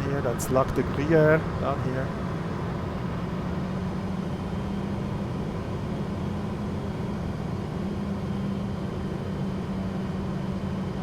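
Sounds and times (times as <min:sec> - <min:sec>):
jet engine cockpit drone: 0:00.0 - 0:11.0.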